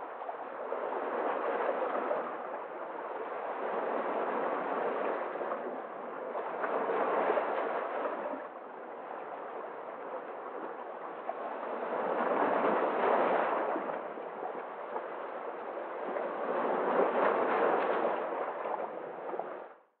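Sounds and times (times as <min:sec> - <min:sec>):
waves washing over rocks: 0:00.0 - 0:19.6.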